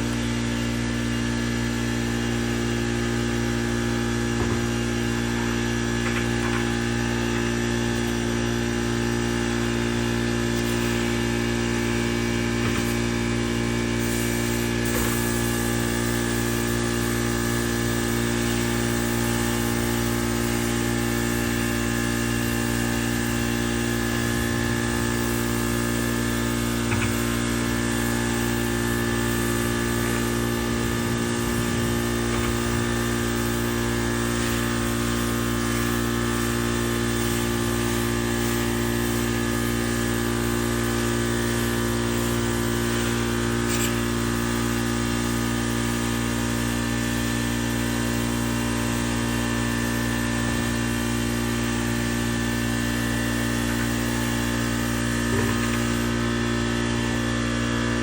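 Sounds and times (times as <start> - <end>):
steady motor hum: 0.0 - 58.0.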